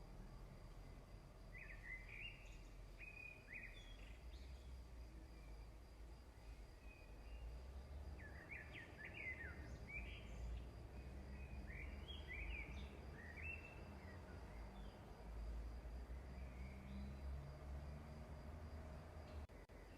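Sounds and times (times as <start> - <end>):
faint bird chirping: 0.6 - 18.1.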